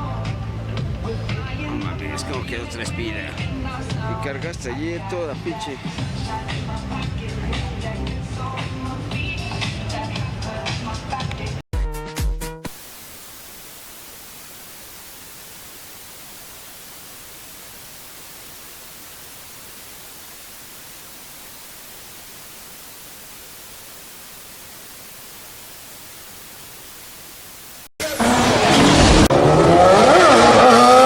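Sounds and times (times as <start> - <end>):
static hiss: 0.0 - 11.6, 12.7 - 28.0.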